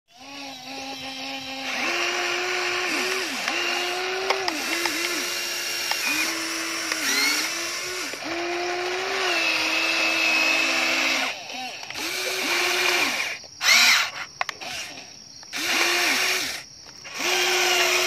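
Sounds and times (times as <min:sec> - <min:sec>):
toy electric motors whining: 0:00.1 - 0:18.0.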